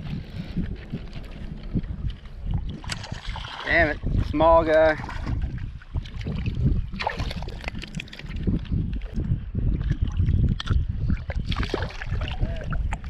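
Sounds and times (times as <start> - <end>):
water splashing and sloshing: 0.0 - 13.0
wind rumbling on microphone: 0.0 - 13.0.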